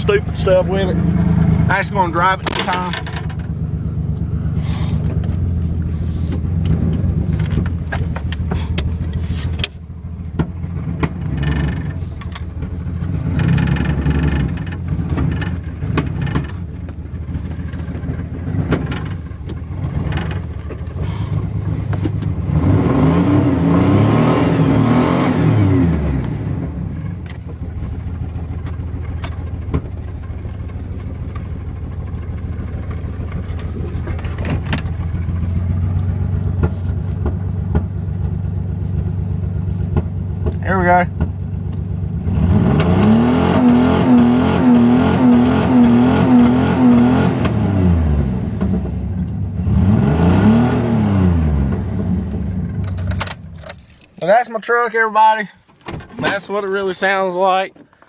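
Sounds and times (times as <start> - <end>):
pickup truck engine revving: 0.0 - 54.0.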